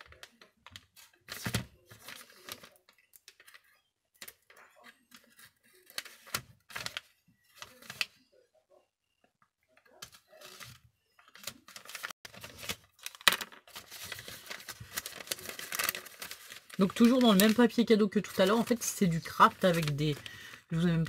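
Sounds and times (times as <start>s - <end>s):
paper rustling and crinkling: 0.0s - 8.2s, 9.8s - 21.0s.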